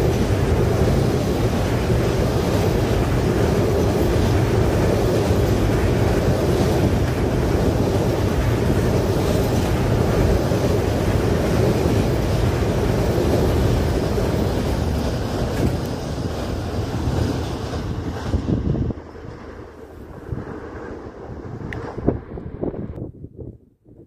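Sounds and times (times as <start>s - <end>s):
freight train rolling on rails: 0.0s - 23.5s.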